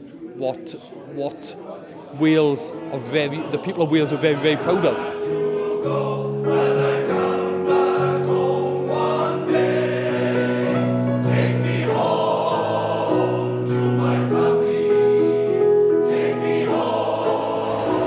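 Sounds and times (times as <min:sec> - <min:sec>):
male voice choir singing: 0:01.4 - 0:18.0.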